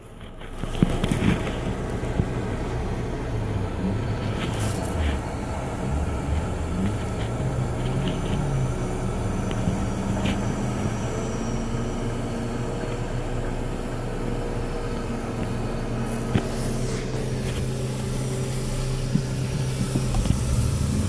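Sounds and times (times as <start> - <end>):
car engine running under load: 0.0 - 21.0
wheels spinning in mud: 0.0 - 21.0.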